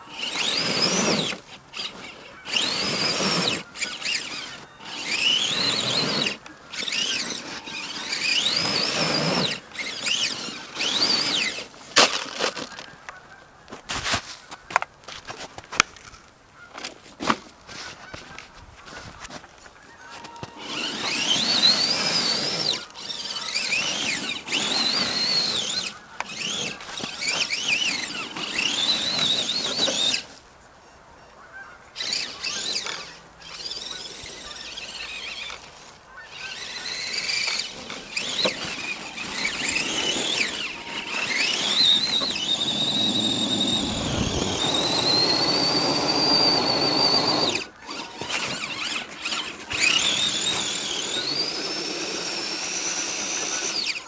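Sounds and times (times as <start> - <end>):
toy truck motor whining: 0.0 - 30.4, 31.6 - 54.0.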